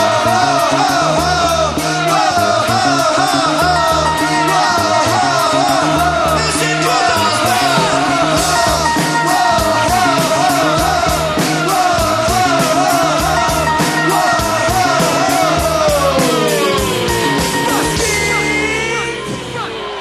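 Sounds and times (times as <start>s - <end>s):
drum beat: 0.0s - 19.7s
wavering lead melody: 0.0s - 20.0s.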